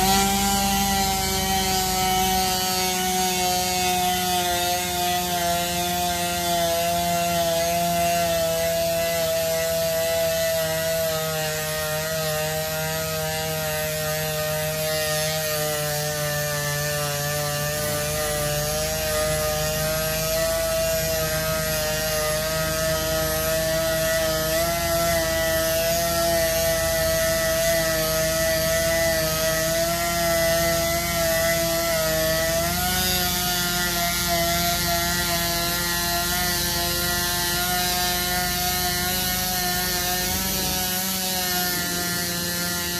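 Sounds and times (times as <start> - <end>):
sander whining on metal wheel: 0.0 - 42.9.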